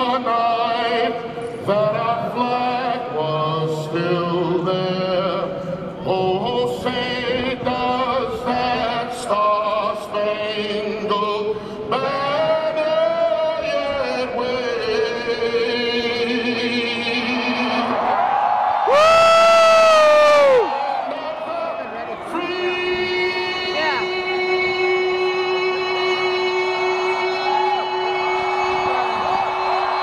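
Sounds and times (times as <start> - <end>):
person singing over stadium speakers: 0.0 - 30.0.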